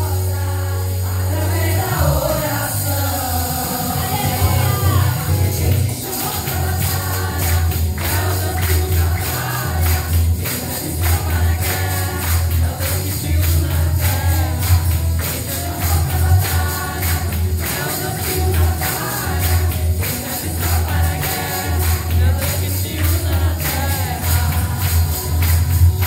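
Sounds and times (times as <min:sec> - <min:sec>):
deep bass accompaniment: 0:00.0 - 0:26.0
tambourine: 0:00.0 - 0:26.0
women's choir singing: 0:00.0 - 0:26.0.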